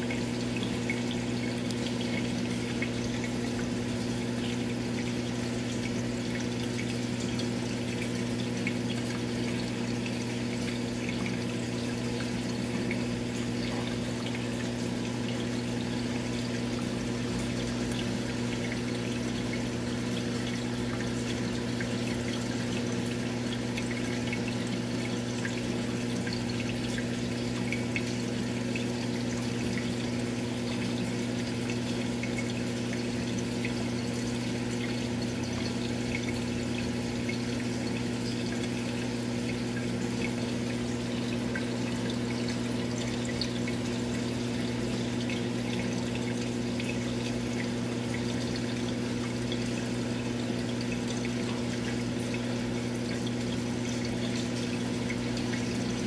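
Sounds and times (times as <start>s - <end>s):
aquarium pump humming: 0.0s - 56.0s
water trickling and bubbling: 0.0s - 56.0s.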